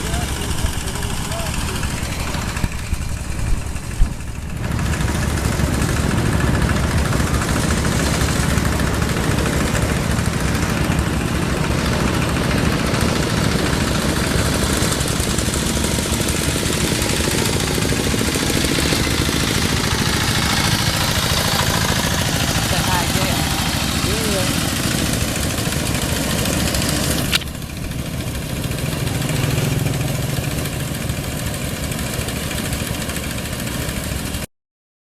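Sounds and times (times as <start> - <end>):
farm machinery engine pulsing: 0.0 - 34.4.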